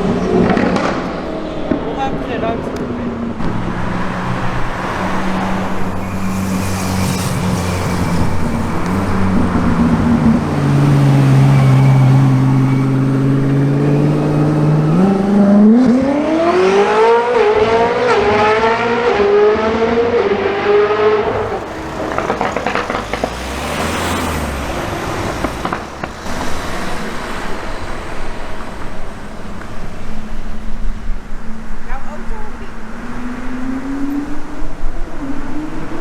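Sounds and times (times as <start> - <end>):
car engine accelerating and shifting: 0.0 - 36.0.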